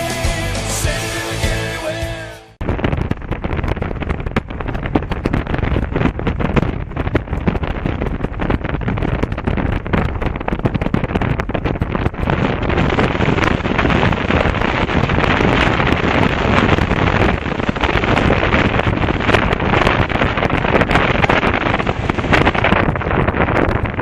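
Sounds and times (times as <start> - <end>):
wind roaring over microphone: 0.7 - 24.0.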